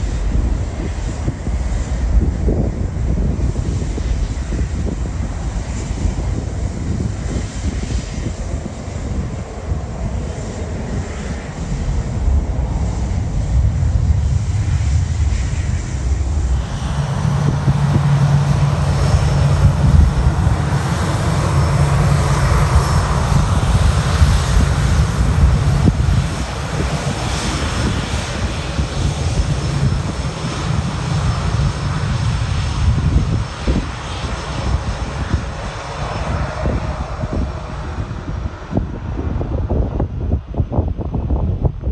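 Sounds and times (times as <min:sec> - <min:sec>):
faint high engine whine: 0:00.0 - 0:41.7
aircraft engines rumbling: 0:00.0 - 0:41.9.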